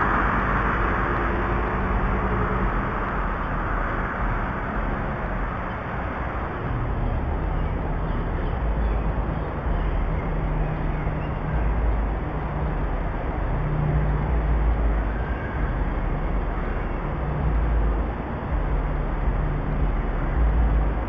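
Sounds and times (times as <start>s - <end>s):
outdoor noise: 0.0s - 21.0s.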